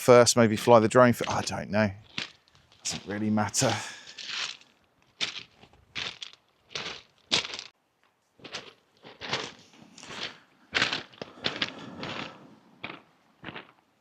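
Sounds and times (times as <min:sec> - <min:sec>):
footsteps crunching on pebbles: 0:00.7 - 0:07.8, 0:08.4 - 0:13.9.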